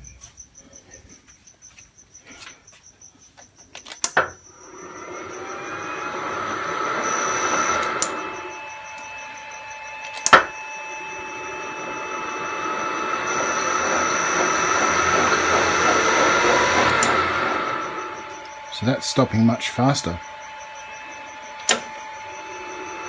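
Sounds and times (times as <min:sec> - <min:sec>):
steady high whine: 0:00.0 - 0:23.0
lathe motor spinning: 0:04.0 - 0:23.0.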